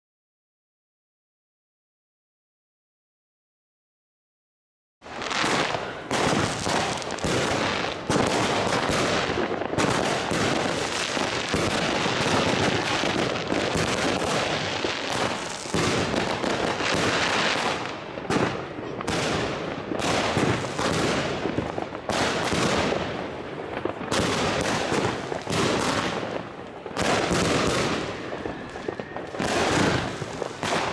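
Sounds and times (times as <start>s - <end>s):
fireworks bangs: 5.1s - 30.9s.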